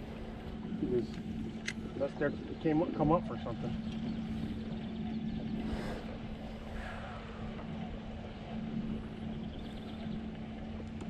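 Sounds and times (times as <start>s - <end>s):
boat motor humming: 0.0s - 11.0s
wind and water rushing: 0.0s - 11.0s.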